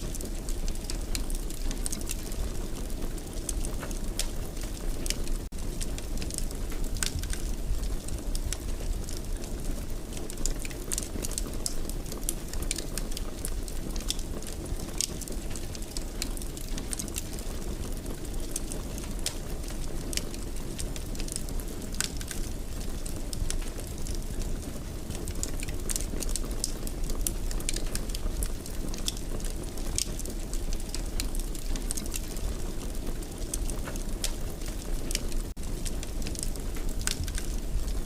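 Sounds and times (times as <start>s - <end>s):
fire burning low noise: 0.0s - 38.0s
wood fire crackling and popping: 0.0s - 38.0s.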